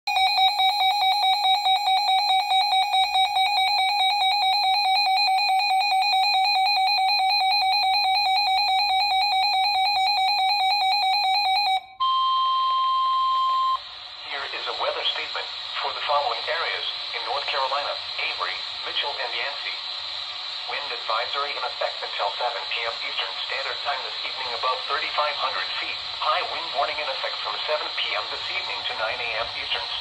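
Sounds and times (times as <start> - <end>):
steady warning alarm tone: 0.1 - 30.0
weather radio alarm beeping: 0.1 - 30.0.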